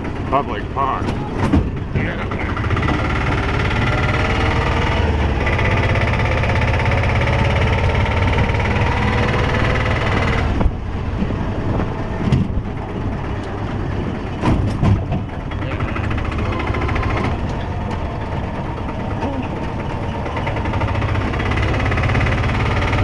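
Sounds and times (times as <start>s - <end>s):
engine knocks: 0.0s - 23.0s
rickshaw engine rumbling: 0.0s - 23.0s.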